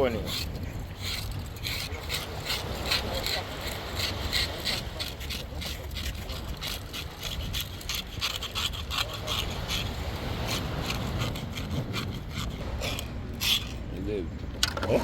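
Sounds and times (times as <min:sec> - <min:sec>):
rough scraping strokes: 0:00.0 - 0:13.9.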